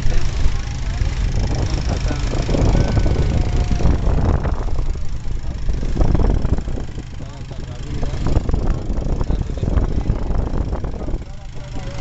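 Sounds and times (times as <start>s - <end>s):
boat engine rumble: 0.0s - 12.0s
wind on microphone: 0.0s - 12.0s.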